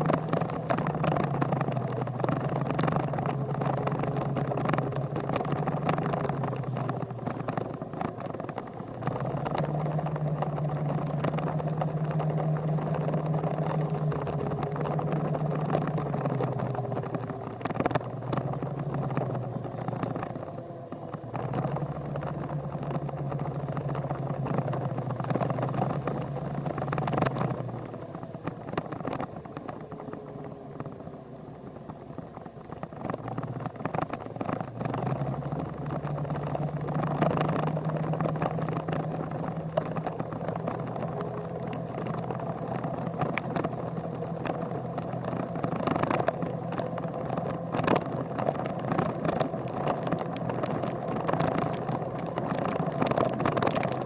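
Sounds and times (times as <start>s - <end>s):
clicks and crackles: 0.0s - 54.0s
road noise: 0.0s - 54.0s
vehicle engine running: 0.0s - 54.0s.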